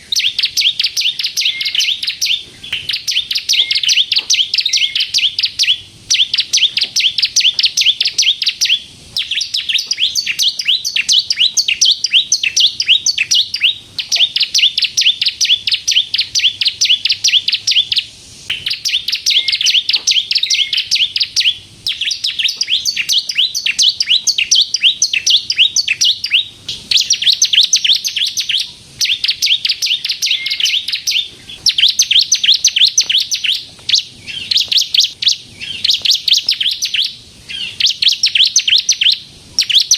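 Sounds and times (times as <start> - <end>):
bird high-pitched trills: 0.0 - 39.9.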